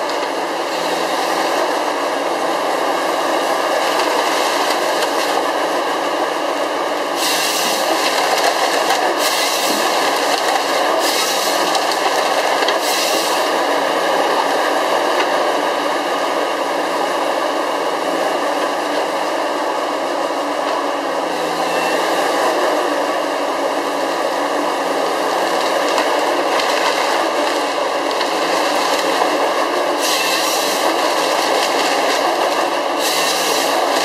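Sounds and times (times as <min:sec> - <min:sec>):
harvester engine and hydraulics: 0:00.0 - 0:10.1, 0:10.8 - 0:12.0, 0:12.6 - 0:26.5, 0:27.1 - 0:34.0.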